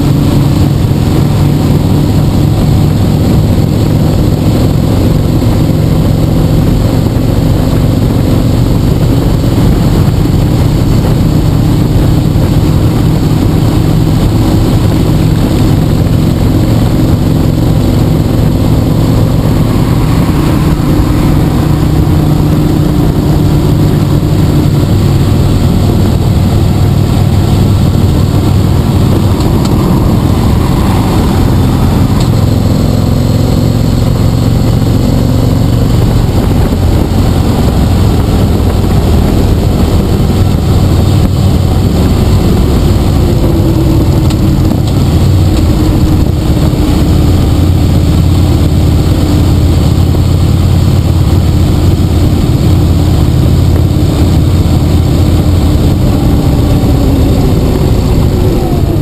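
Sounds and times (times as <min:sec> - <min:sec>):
motorcycle engine cruising: 0:00.0 - 0:59.0
wind rush over microphone: 0:00.0 - 0:59.0.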